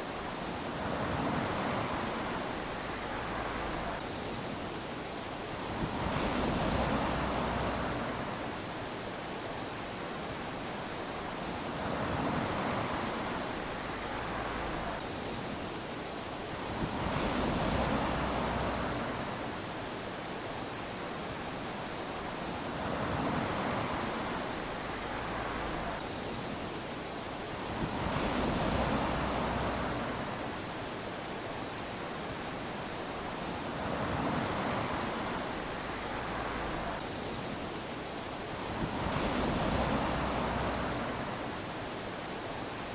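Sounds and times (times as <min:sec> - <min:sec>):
small waves lapping on sand: 0:00.0 - 0:42.9.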